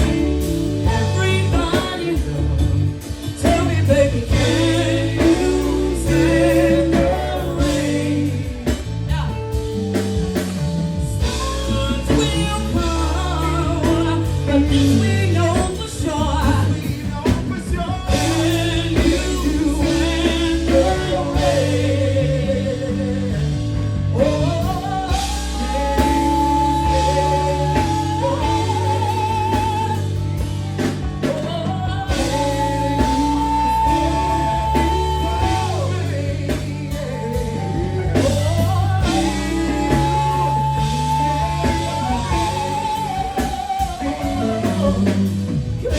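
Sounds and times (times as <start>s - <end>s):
woman singing a ballad: 0.0s - 9.9s, 10.6s - 45.9s
bass drums and guitar backing: 0.0s - 45.9s.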